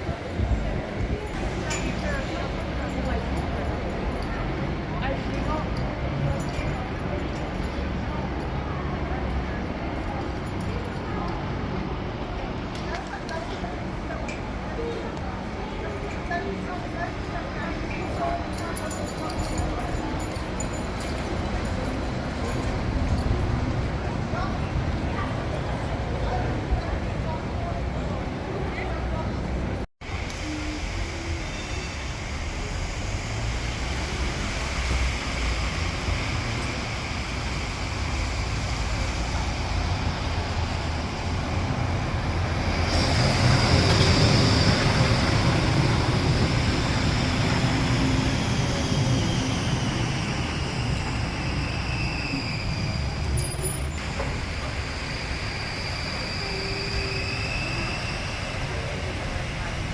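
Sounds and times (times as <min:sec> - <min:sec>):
street traffic: 0:00.0 - 0:59.9.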